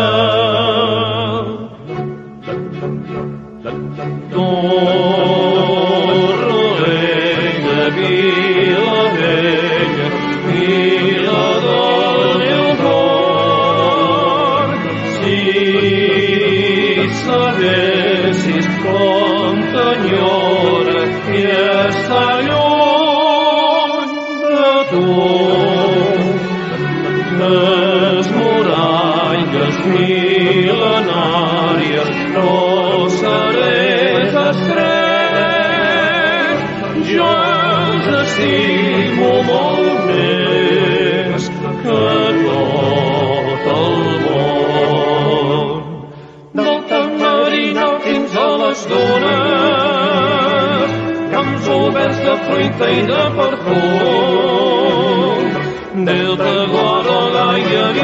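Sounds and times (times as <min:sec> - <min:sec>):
voices singing with wide vibrato: 0:00.0 - 0:58.0.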